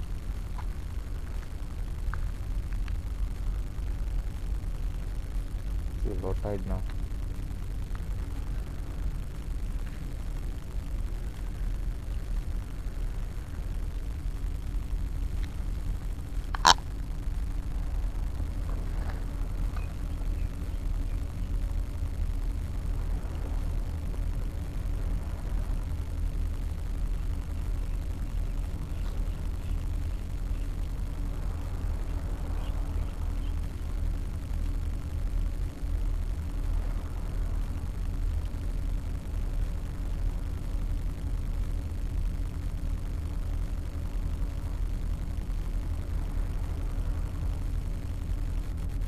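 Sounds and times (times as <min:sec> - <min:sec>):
faint constant hum: 0:00.0 - 0:49.0
wind rumbling on microphone: 0:00.0 - 0:49.0.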